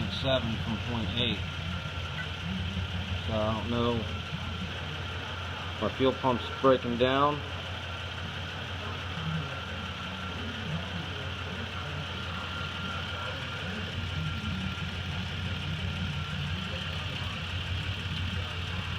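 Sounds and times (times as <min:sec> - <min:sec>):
car engine idling: 0:00.0 - 0:18.9
faint high whine: 0:00.0 - 0:18.9.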